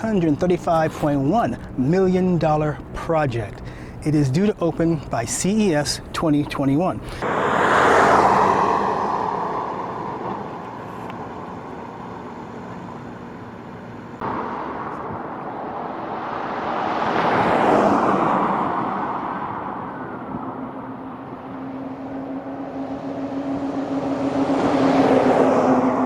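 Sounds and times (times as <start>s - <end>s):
vehicle passing: 0.0s - 13.6s, 14.2s - 26.0s.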